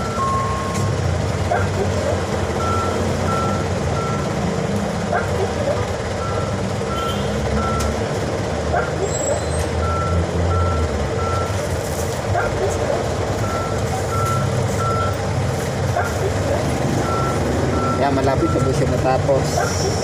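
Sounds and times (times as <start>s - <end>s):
low engine rumble: 0.0s - 20.0s
vehicle reversing alarm beeping: 0.0s - 20.0s.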